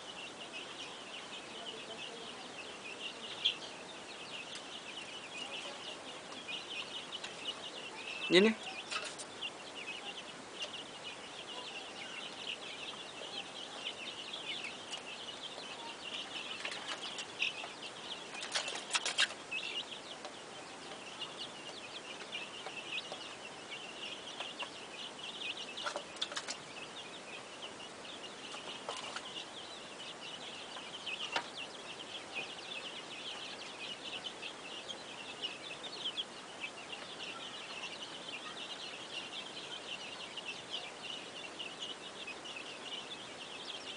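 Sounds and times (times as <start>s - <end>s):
chickens chattering: 0.0s - 43.9s.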